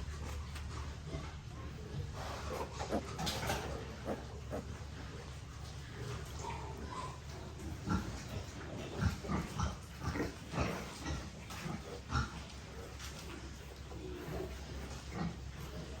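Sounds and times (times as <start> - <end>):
pigs grunting: 0.0 - 16.0.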